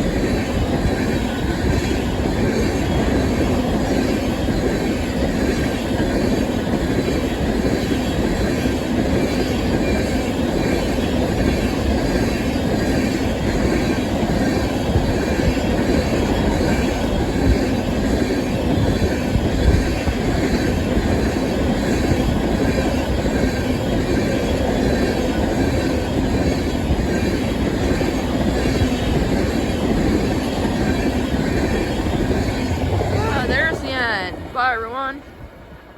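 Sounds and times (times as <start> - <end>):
freight train cars rolling on rails: 0.0 - 35.9.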